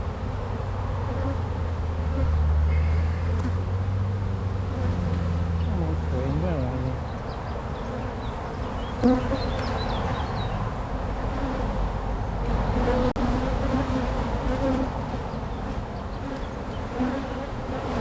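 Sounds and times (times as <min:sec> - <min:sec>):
honey bees buzzing: 0:00.0 - 0:18.0.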